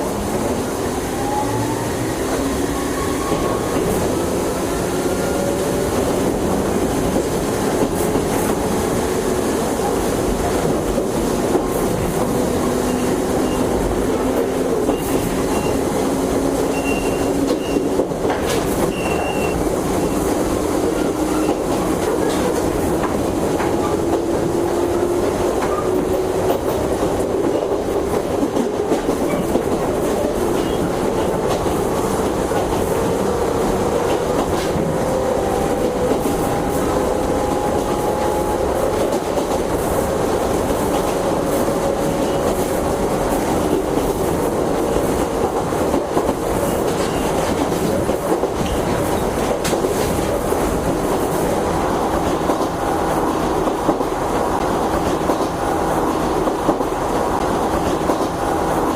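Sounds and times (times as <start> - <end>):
clickety-clack of rail joints: 0.0 - 58.9
wheel and track noise: 0.0 - 58.9.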